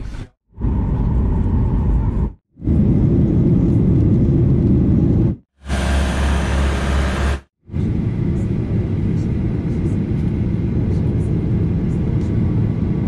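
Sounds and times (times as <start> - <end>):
jet engines rumbling in cabin: 0.6 - 13.0
taxiing jet rumble: 0.6 - 13.0.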